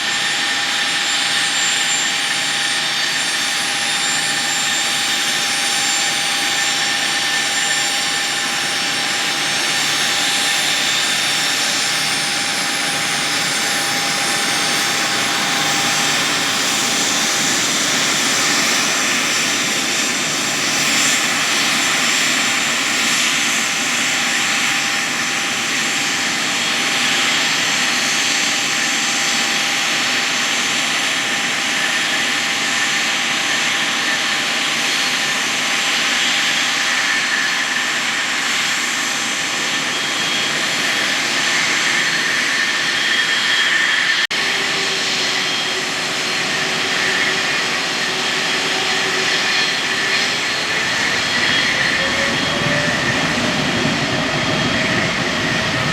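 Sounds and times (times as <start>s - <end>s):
jet engines at high power: 0.0s - 55.9s.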